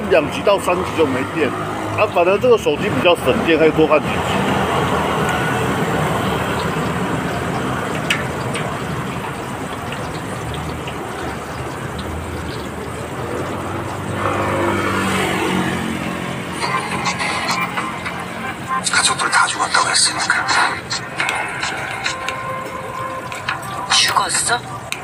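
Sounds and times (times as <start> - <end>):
vehicle passing close: 0.0 - 23.8
passing cars and scooters: 0.0 - 25.0.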